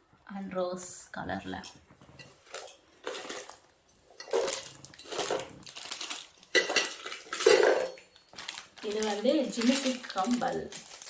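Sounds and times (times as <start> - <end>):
rustling: 1.5 - 11.0
small objects clattering: 1.5 - 11.0.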